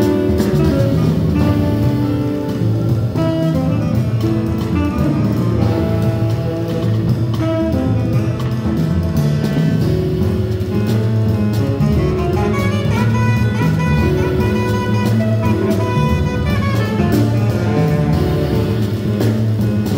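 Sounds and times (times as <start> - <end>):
drum kit with cymbals: 0.0 - 19.9
grand piano: 0.0 - 19.9
tenor saxophone lead: 0.0 - 19.9
upright bass: 0.0 - 19.9.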